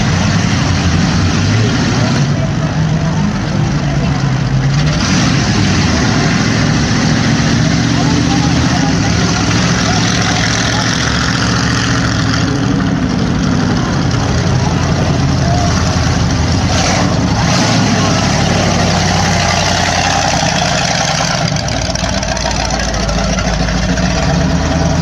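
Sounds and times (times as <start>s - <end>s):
truck engine idling loudly: 0.0s - 25.0s.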